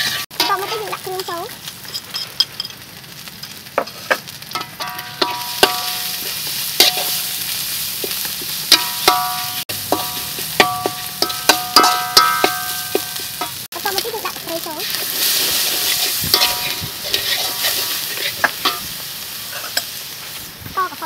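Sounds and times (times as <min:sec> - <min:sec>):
wok ringing: 0:00.0 - 0:02.8, 0:04.5 - 0:20.0
metal spatula scraping wok: 0:00.0 - 0:20.5
paste sizzling in hot oil: 0:00.0 - 0:21.0.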